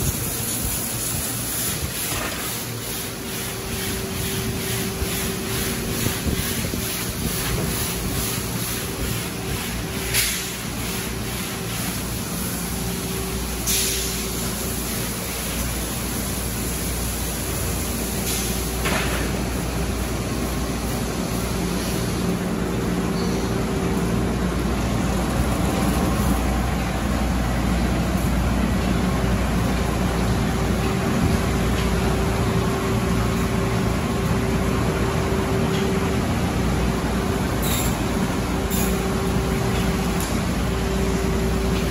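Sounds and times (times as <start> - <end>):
car wash spraying hiss: 0.0 - 35.4
low machine hum: 0.0 - 41.9.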